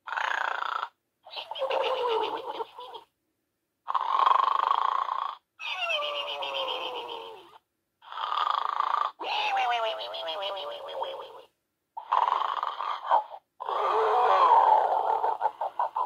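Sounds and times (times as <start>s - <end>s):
toy pig snoring: 0.0s - 3.1s, 3.8s - 16.0s.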